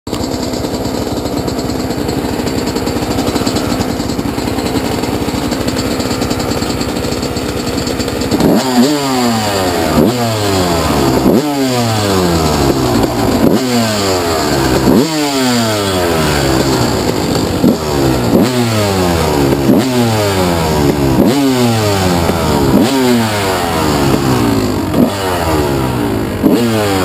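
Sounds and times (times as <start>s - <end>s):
two-stroke engine revving: 0.1s - 27.0s.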